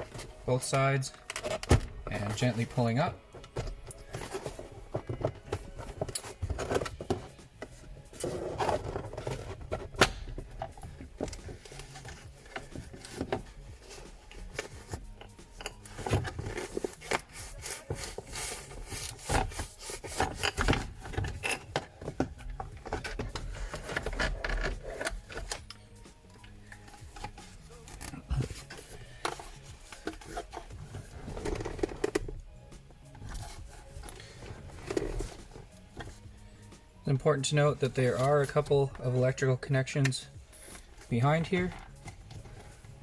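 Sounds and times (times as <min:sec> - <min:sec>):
plastic rubbing and scraping: 0:00.0 - 0:25.7, 0:26.7 - 0:32.5, 0:33.1 - 0:36.4.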